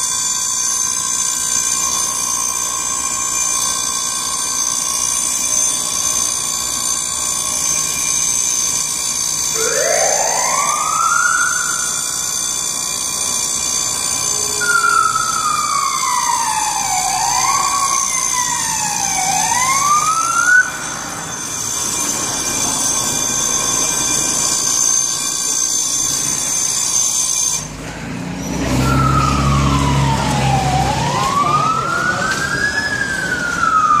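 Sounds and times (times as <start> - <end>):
fire truck siren wailing: 0.0 - 25.3, 28.4 - 34.0.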